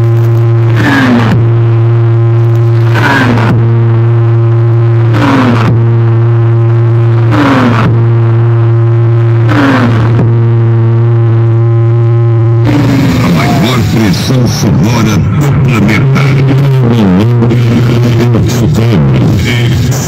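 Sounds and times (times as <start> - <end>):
deep bass tone: 0.0 - 20.0.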